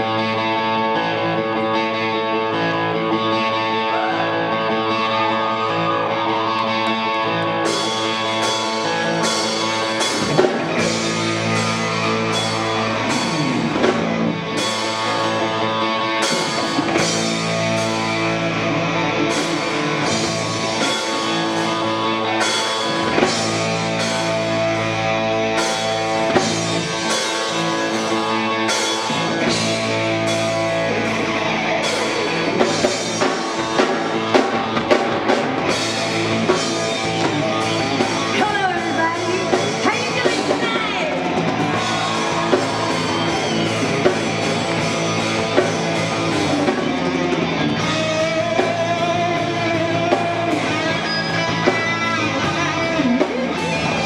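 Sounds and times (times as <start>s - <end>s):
bass guitar: 0.0s - 54.0s
electric guitars: 0.0s - 54.0s
drum kit: 4.8s - 54.0s.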